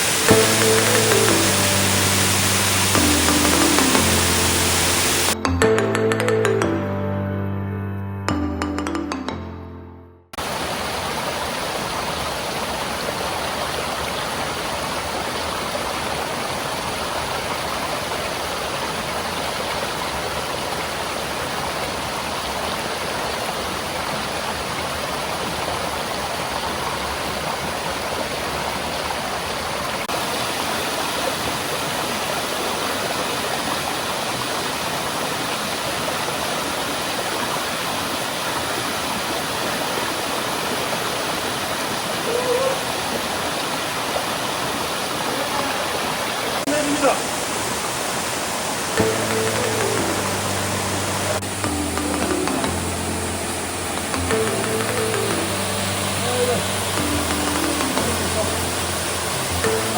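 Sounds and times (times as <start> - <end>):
waterfall roaring: 0.0 - 5.4, 10.4 - 59.9.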